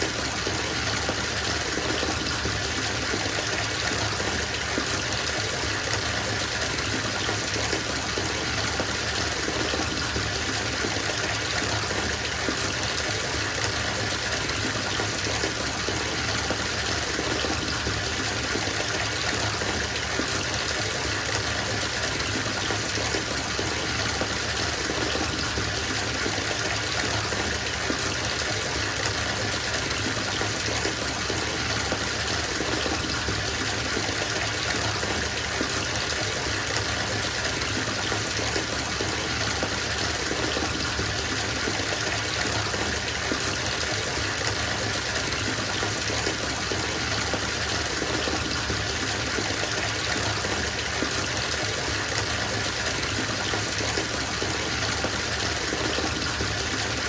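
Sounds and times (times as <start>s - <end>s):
water pouring into bathtub: 0.0s - 57.0s.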